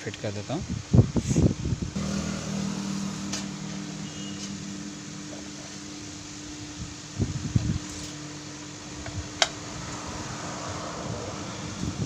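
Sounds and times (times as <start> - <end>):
electric motor humming: 1.9 - 12.0.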